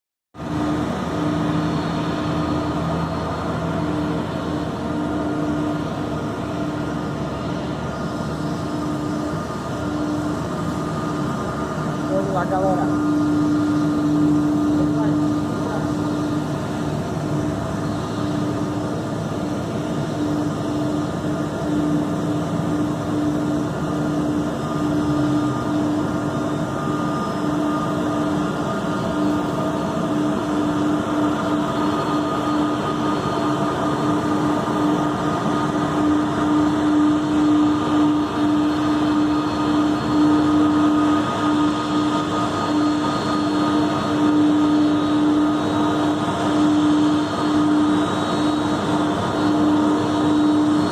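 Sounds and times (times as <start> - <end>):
jet engines whining: 0.4 - 50.9.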